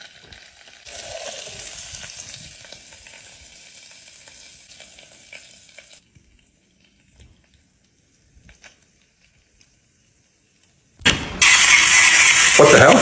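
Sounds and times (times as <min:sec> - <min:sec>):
steak sizzling in hot fat: 0:00.0 - 0:13.0.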